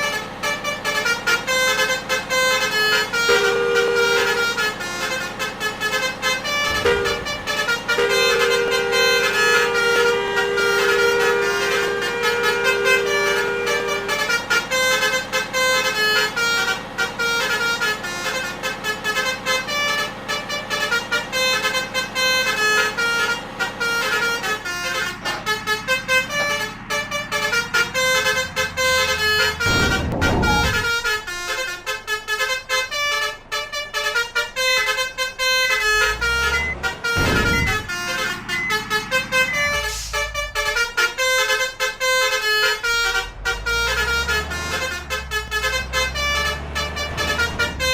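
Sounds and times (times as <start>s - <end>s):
heavy vehicle engine rumble: 0.0s - 47.9s
multi-tone bus horn tunes: 0.0s - 47.9s.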